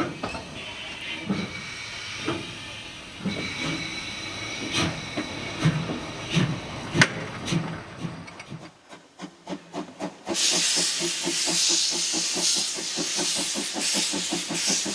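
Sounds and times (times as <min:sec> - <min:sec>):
steam hissing: 0:00.0 - 0:08.3, 0:09.5 - 0:14.9
steam locomotive exhaust chuffing: 0:00.0 - 0:14.9.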